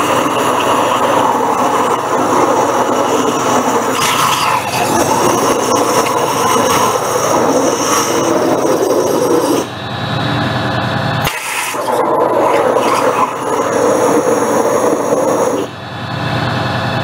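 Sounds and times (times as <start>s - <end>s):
waterjet cutter hissing: 0.0s - 16.0s.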